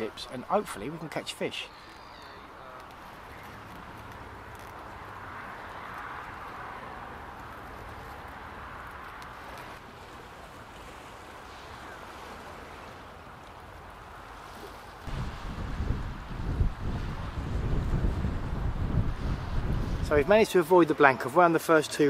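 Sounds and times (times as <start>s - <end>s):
surf on beach: 0.0s - 22.0s
wind: 0.0s - 22.0s.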